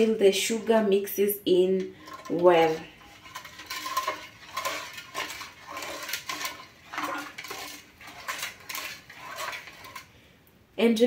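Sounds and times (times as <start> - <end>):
utensil scraping metal pot: 0.0 - 10.2.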